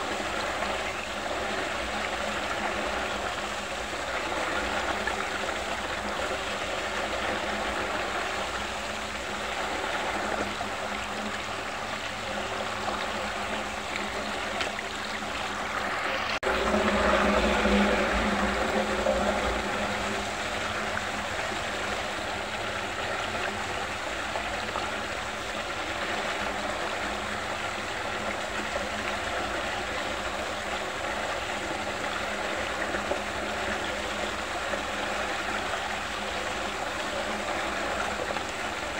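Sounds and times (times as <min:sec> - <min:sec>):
low steady hum: 0:00.0 - 0:38.9
water swirling and draining: 0:00.0 - 0:38.9.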